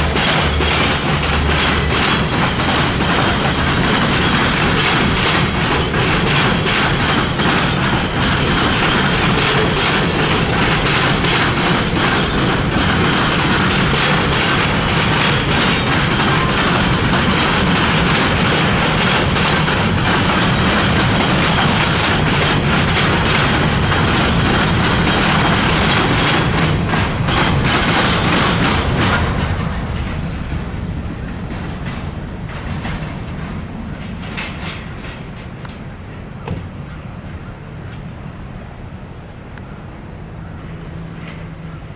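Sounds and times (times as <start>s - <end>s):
train wheel clacks: 0.0s - 38.3s, 40.4s - 41.9s
freight train rumbling past: 0.0s - 41.9s.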